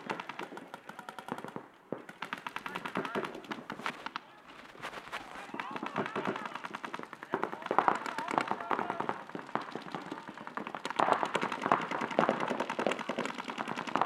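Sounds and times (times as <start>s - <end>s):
paintball guns firing: 0.0s - 4.3s, 5.0s - 14.0s.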